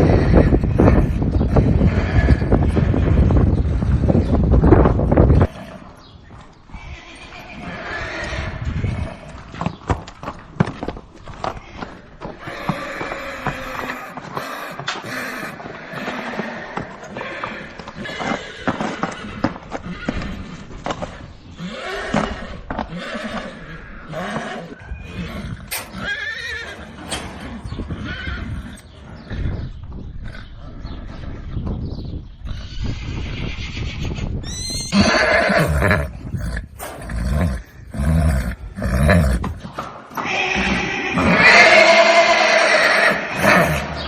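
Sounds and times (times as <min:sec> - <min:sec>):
horses whinnying: 0:00.0 - 0:04.1, 0:06.7 - 0:09.7, 0:11.4 - 0:29.6, 0:32.4 - 0:44.0.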